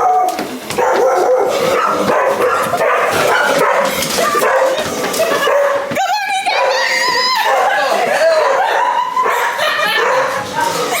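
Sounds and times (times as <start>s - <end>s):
dog barking and yipping: 0.0s - 5.9s, 6.5s - 10.5s.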